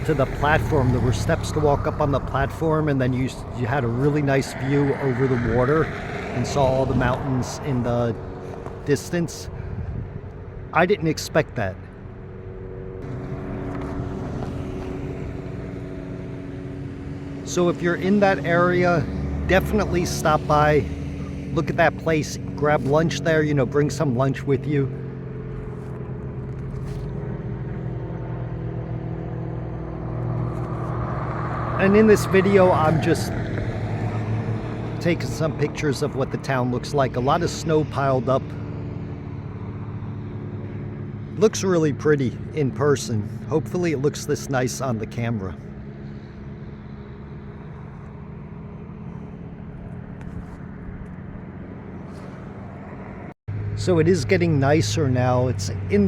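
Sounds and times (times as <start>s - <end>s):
car engine and road drone: 0.0s - 56.0s
outdoor noise: 0.0s - 56.0s.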